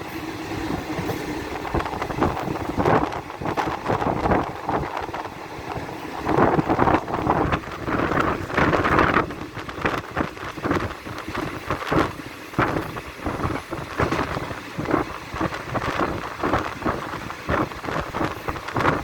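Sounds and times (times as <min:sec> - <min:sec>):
passenger train rumbling: 0:00.0 - 0:19.0
wind buffeting microphone: 0:00.3 - 0:19.0.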